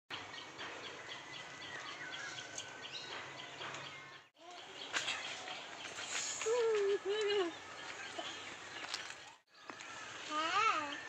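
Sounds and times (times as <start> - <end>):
birds chirping: 0.1 - 11.0
outdoor background noise: 0.1 - 11.0.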